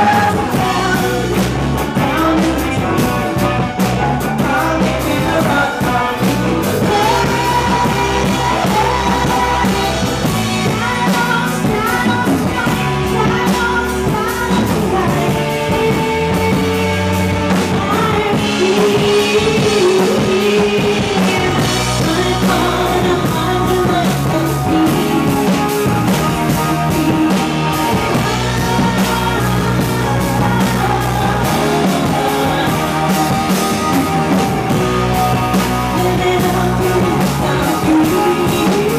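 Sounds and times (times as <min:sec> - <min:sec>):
live rock band playing: 0:00.0 - 0:38.9
woman singing: 0:00.0 - 0:38.9.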